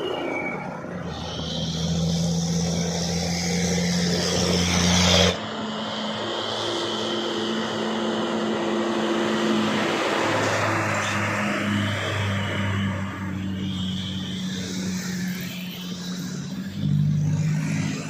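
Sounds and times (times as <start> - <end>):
diesel truck engine labouring: 0.0 - 18.0.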